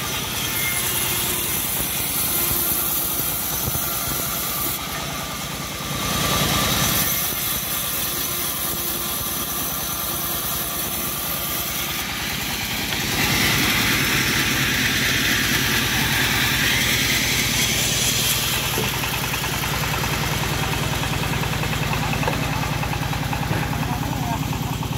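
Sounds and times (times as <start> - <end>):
engine pulsing steadily: 0.0 - 24.9
saw blade cutting wood: 0.0 - 24.9.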